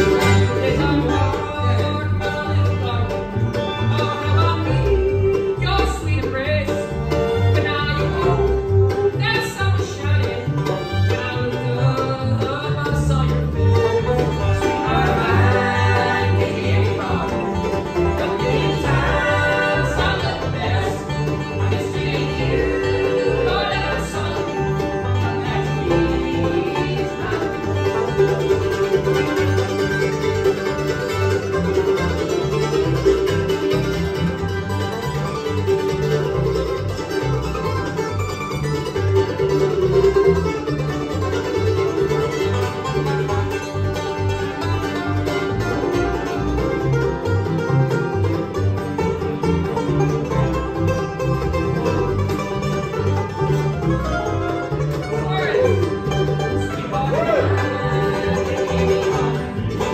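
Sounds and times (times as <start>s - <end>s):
banjo picking: 0.0s - 59.9s
bluegrass band playing: 0.0s - 59.9s.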